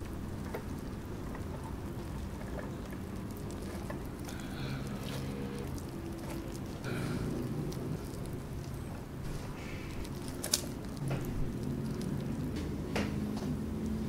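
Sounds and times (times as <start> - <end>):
small crackling ticks: 0.0 - 14.0
wet rustling of sea grapes: 0.0 - 14.0.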